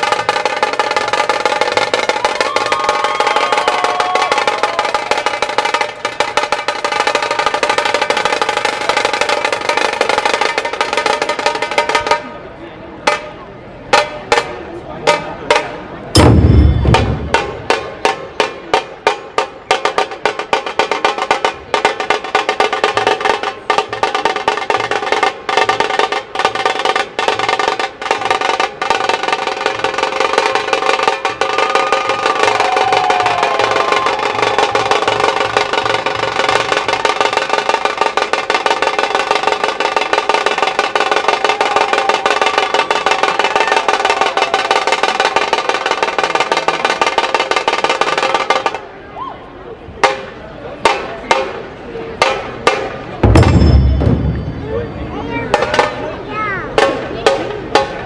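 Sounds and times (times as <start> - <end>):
dhol drums: 0.0 - 12.2, 15.1 - 48.8, 52.2 - 56.0
snare drums: 0.0 - 12.3, 13.1 - 48.9, 50.0 - 56.1, 56.7 - 58.0.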